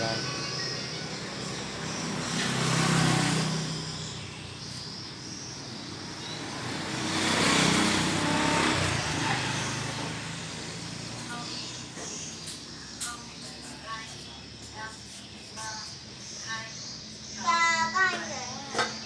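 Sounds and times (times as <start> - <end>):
motor vehicles passing by: 0.0 - 19.0.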